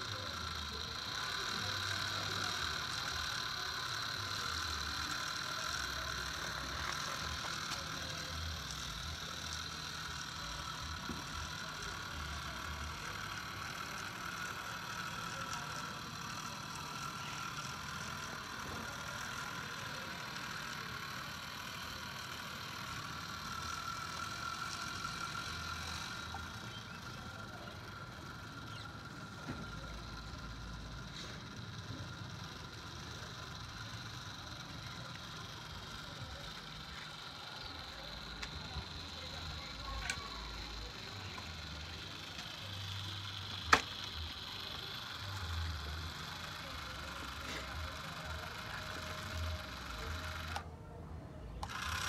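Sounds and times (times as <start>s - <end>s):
electric gear motors whining: 0.0s - 52.0s.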